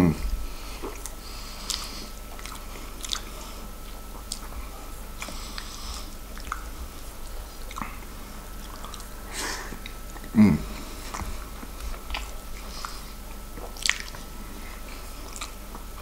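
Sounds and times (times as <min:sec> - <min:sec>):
chewing with wet mouth clicks: 0:00.8 - 0:10.4, 0:11.0 - 0:16.0.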